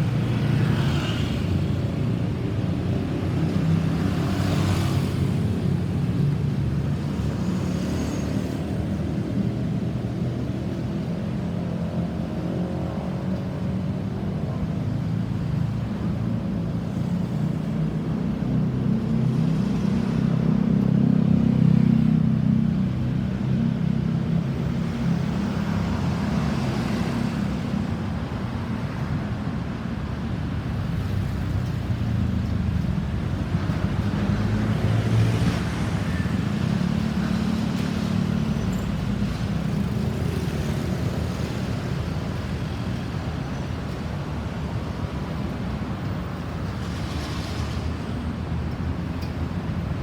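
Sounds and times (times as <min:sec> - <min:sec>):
vehicles passing by: 0:00.0 - 0:50.0.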